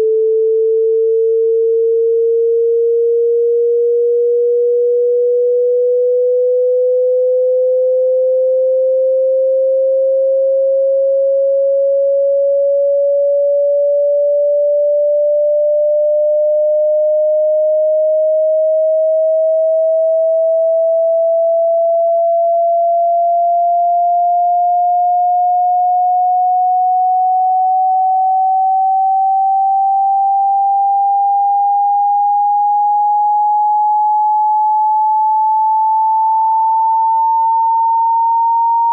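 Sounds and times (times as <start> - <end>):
sine tone sweeping upward: 0.0 - 38.9.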